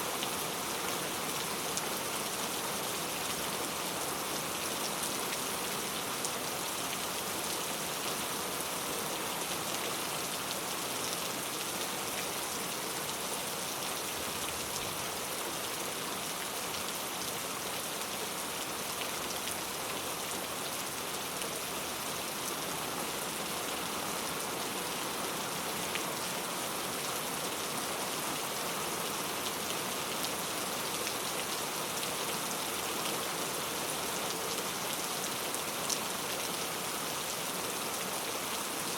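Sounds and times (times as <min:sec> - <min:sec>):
heavy rain on leaves: 0:00.0 - 0:38.9.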